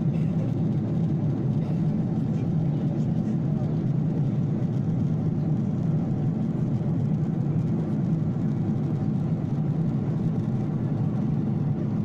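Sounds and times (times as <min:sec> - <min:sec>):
airliner cabin engine hum: 0:00.0 - 0:12.0.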